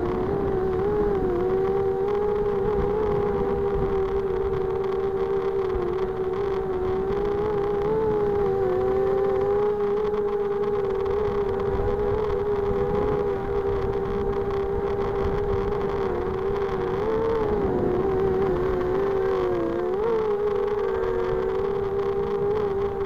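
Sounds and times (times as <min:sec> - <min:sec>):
quadcopter motors whining: 0:00.0 - 0:23.0
wind on microphone: 0:00.0 - 0:23.0.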